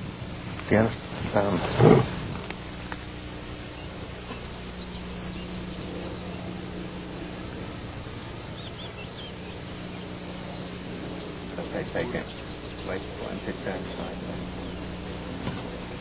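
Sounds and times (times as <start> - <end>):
recording hiss and hum: 0.0 - 16.0
faint bird chirps: 3.0 - 16.0.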